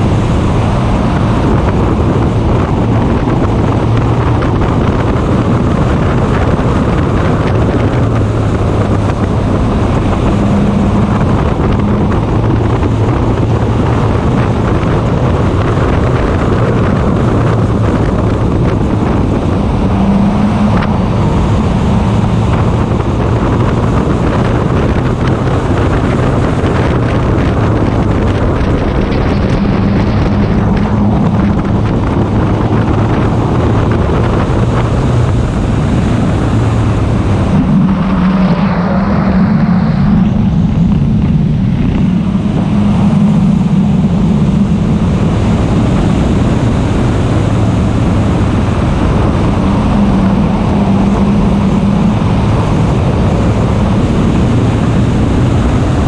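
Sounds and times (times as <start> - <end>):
racing car engine revving: 0.0 - 56.0
wind noise on microphone: 0.0 - 56.0.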